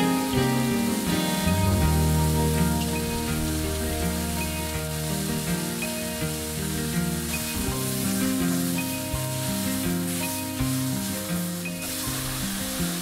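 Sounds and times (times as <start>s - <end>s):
background music of held notes: 0.0s - 13.0s
vegetables sizzling in a skillet: 0.0s - 13.0s.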